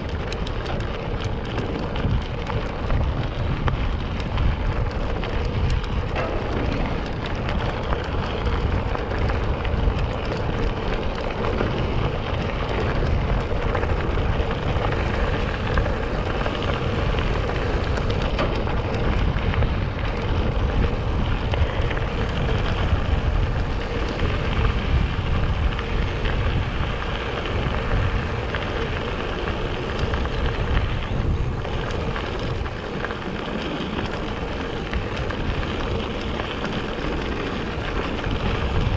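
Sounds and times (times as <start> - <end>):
bike tyres crunching on gravel: 0.0 - 38.9.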